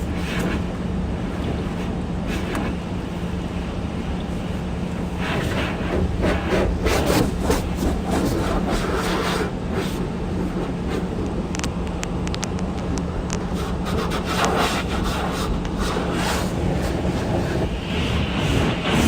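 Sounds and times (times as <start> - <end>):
spraying water rushing: 0.0 - 12.2, 12.8 - 19.0.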